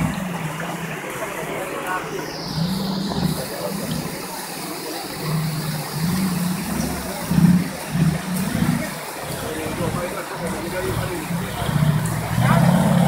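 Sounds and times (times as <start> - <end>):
engine revving: 2.3 - 13.0.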